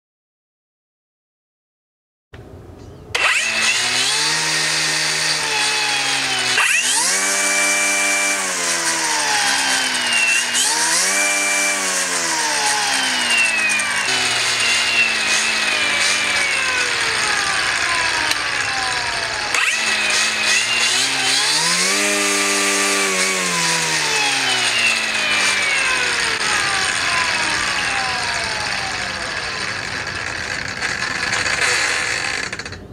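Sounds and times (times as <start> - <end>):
electric string trimmer whirring: 3.2 - 32.9.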